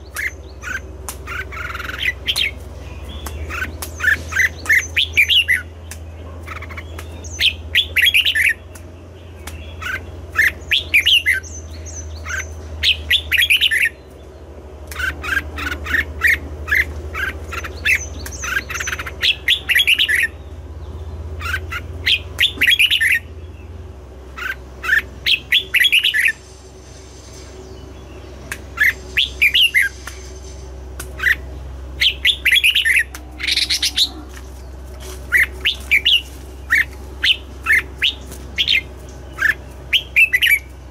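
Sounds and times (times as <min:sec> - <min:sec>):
birds singing quick notes: 0:00.0 - 0:40.9
steady low hum: 0:00.0 - 0:40.9.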